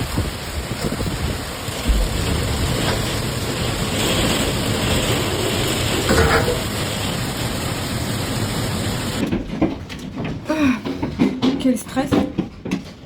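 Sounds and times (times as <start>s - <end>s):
hail and heavy rain pelting: 0.0s - 13.0s.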